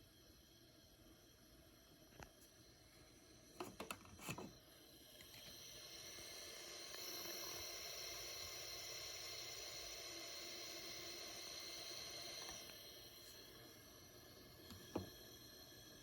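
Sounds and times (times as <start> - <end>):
humidifier hiss: 0.0 - 16.0.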